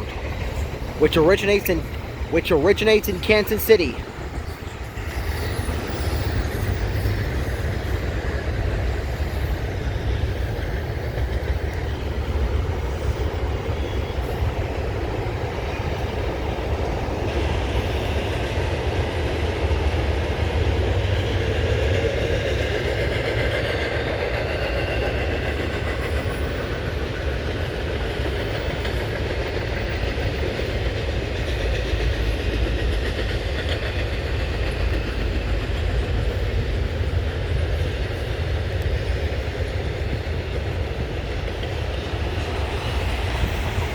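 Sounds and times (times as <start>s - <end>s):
train wheels rumbling and clacking: 0.0s - 43.9s.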